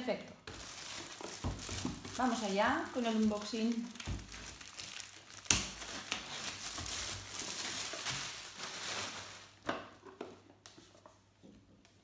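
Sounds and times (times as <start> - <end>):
plastic packaging crinkling: 0.4 - 10.0.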